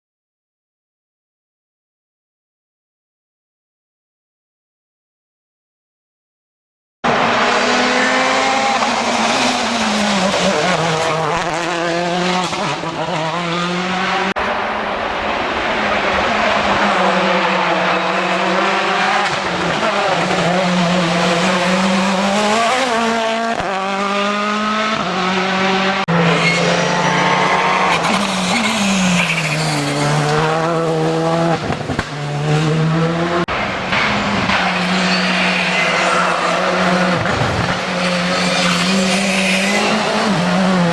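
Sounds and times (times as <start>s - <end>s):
rally car engines revving: 7.0s - 40.9s.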